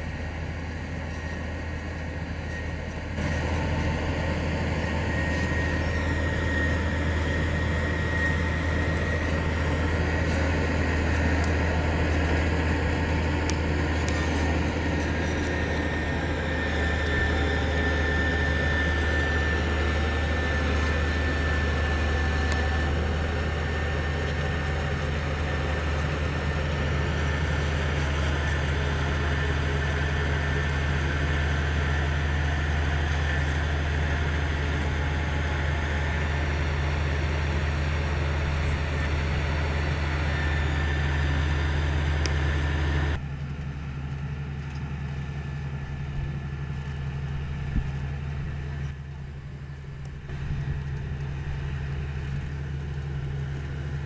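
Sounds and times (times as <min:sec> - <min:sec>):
diesel engine with high whine: 0:00.0 - 0:54.0.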